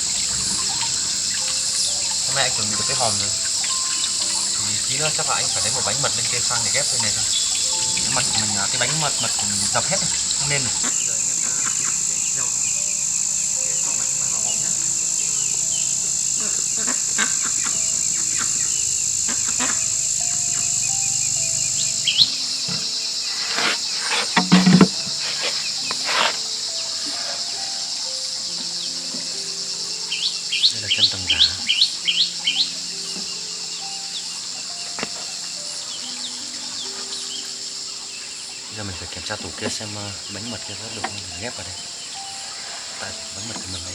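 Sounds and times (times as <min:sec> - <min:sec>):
bird chirps: 0:00.0 - 0:43.9
high-pitched insect drone: 0:00.0 - 0:43.9
honey bees buzzing at hive: 0:00.0 - 0:43.9.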